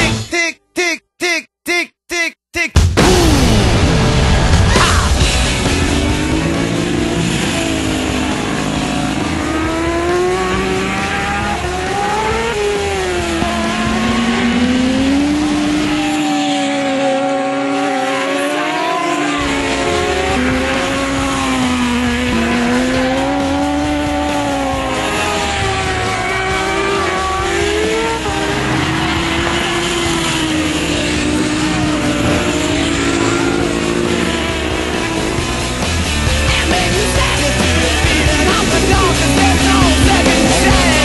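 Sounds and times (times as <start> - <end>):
racing motorcycles passing: 5.2 - 41.0.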